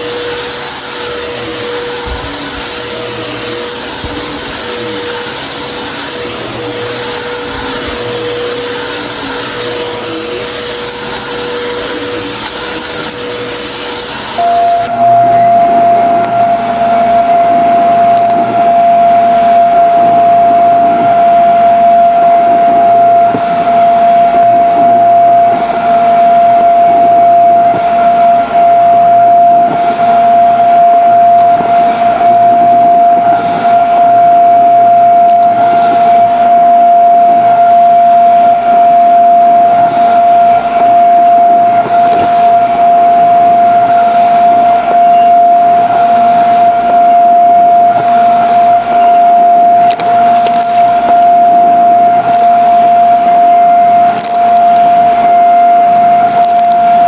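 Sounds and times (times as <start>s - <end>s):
vacuum cleaner whine: 0.0s - 57.0s.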